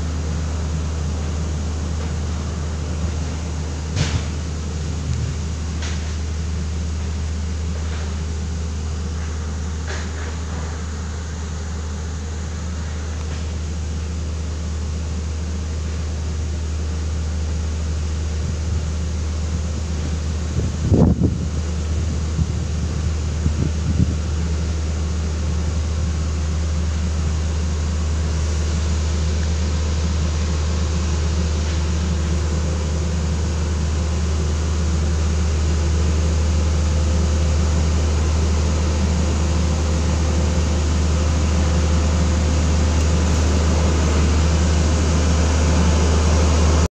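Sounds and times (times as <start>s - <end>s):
road roller compactor humming: 0.0s - 46.9s.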